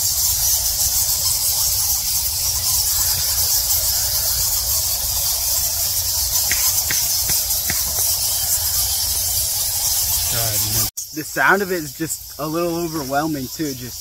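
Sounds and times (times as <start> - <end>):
bats squeaking and chirping: 0.0 - 14.0.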